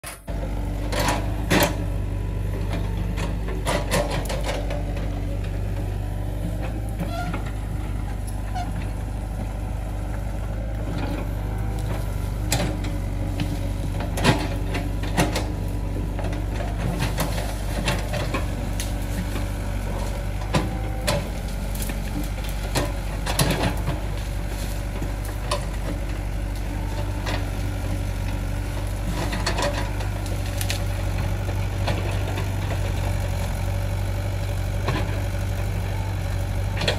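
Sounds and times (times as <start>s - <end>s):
excavator engine running: 0.0s - 36.9s.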